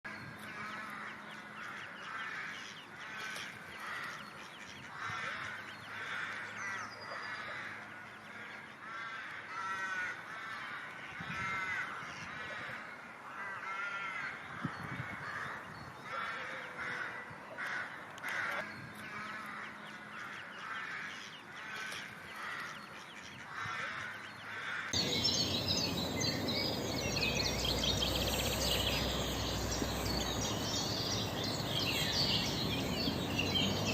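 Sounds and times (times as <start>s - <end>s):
birds calling: 0.1s - 33.9s.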